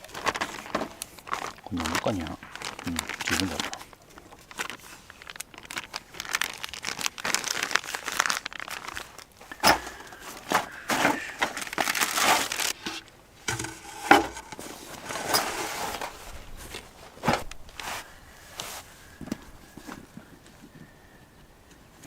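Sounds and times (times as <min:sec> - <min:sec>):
crinkly material rustling: 0:00.0 - 0:21.1.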